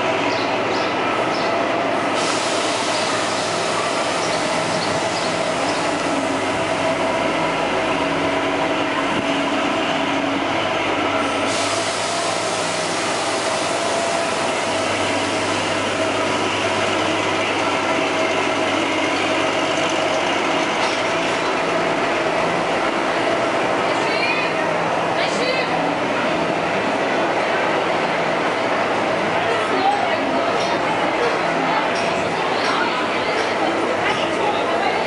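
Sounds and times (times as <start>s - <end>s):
diesel locomotive engine idling: 0.0s - 35.0s.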